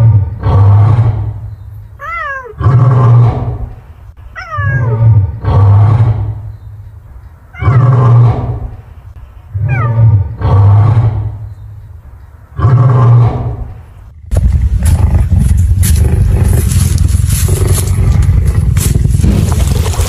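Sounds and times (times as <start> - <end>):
big cat growling and roaring: 0.0 - 3.8, 4.4 - 6.5, 7.6 - 8.8, 9.5 - 11.5, 12.6 - 20.0.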